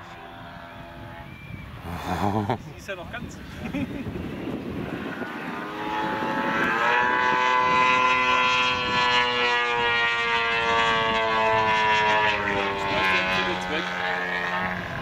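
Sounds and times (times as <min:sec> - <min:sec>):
model airplane engine in flight: 0:00.0 - 0:15.0.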